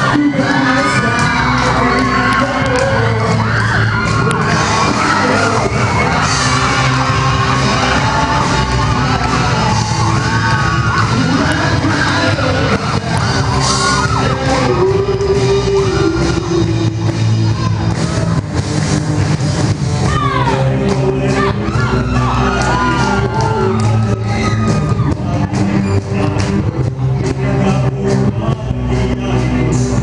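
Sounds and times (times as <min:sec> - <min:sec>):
audience yelling and cheering: 0:00.0 - 0:30.0
live rock band with singing: 0:00.0 - 0:30.0.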